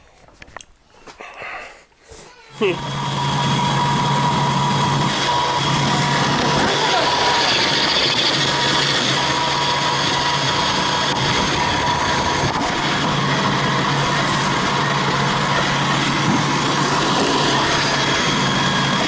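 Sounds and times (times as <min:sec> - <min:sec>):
motor humming with high whine: 0:02.5 - 0:19.0.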